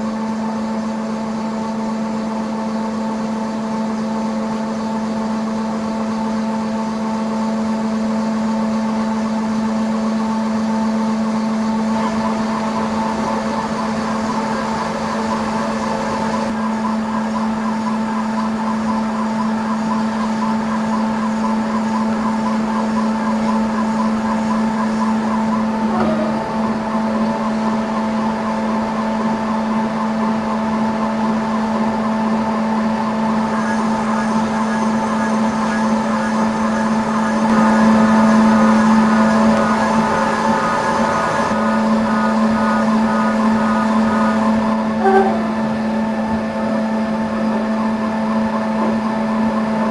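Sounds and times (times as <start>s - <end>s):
milling machine spindle humming: 0.0s - 49.9s.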